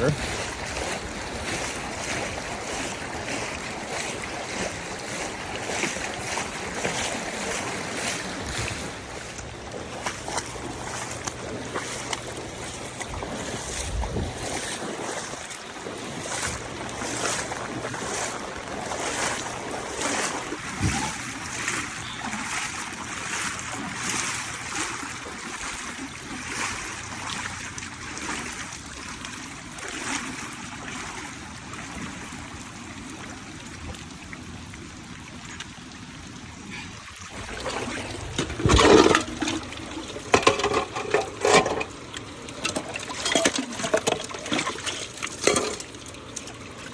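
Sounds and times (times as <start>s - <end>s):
floodwater sloshing and splashing: 0.0s - 46.9s.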